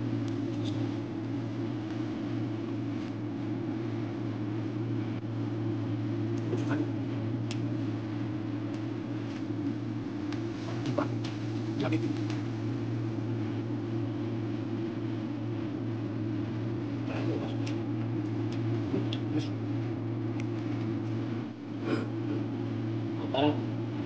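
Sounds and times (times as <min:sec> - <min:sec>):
low hum of room appliance: 0:00.0 - 0:24.0.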